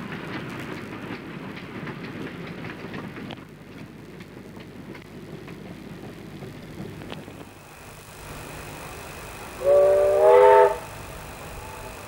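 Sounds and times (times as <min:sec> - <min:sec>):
steam locomotive rushing: 0:00.0 - 0:12.0.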